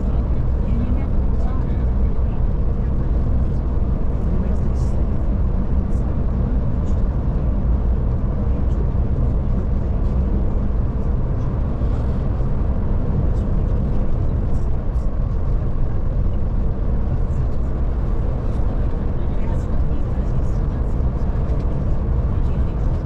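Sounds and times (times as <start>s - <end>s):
coach engine drone: 0.0s - 23.0s
road rumble: 0.0s - 23.0s.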